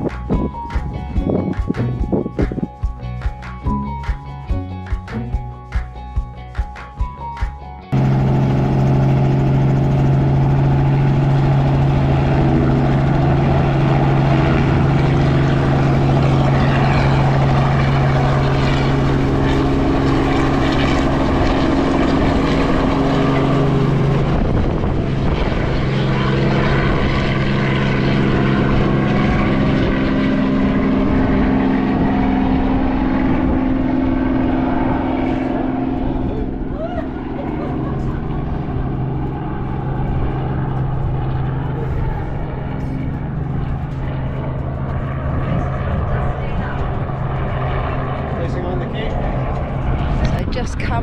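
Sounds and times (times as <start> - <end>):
motor running steadily: 0.0 - 51.0.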